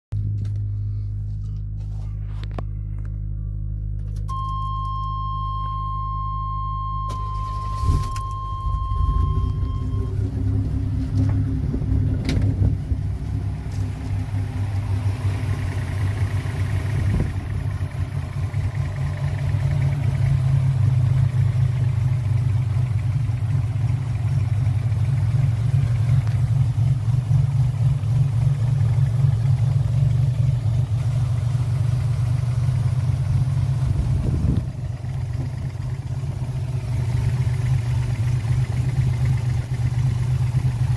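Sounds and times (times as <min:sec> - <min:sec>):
car engine idling: 0:00.2 - 0:40.9.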